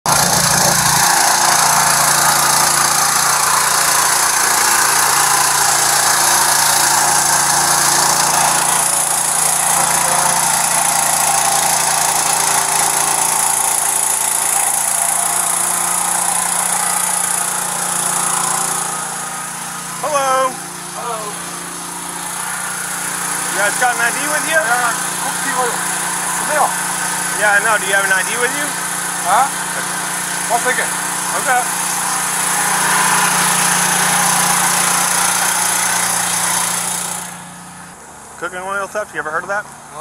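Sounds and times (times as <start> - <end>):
small pump engine running: 0.0 - 40.0.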